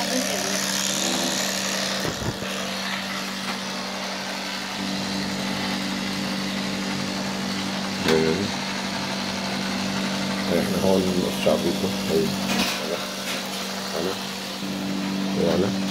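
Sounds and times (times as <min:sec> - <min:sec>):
electric hair clippers humming: 0:00.0 - 0:15.9.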